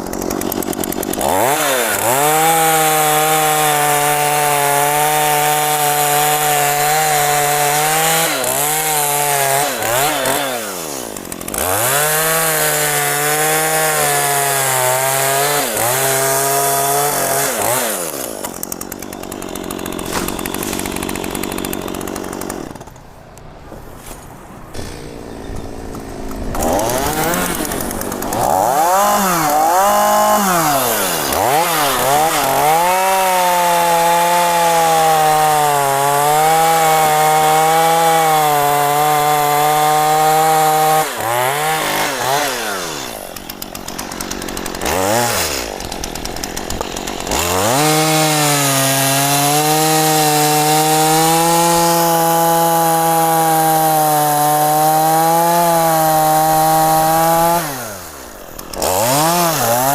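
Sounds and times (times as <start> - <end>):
chainsaw revving and cutting wood: 0.0 - 23.1, 24.7 - 59.9.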